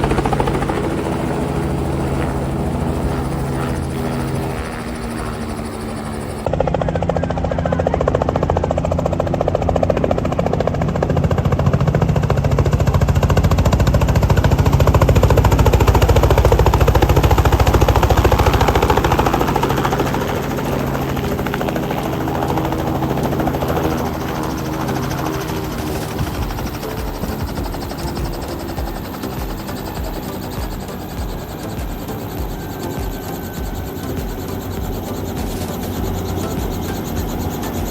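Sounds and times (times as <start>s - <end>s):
helicopter engine drone: 0.0s - 37.9s
helicopter rotor beating: 0.0s - 37.9s.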